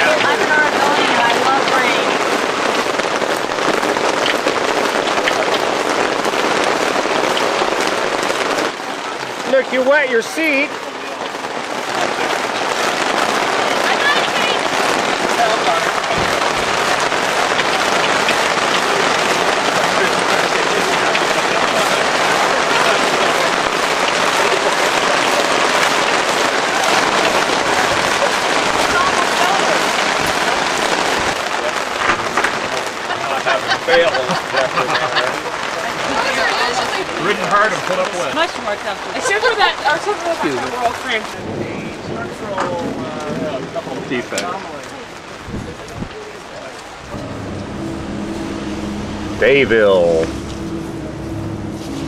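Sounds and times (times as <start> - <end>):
sharp raindrop ticks: 0.0 - 49.4
rain patter: 0.0 - 52.0.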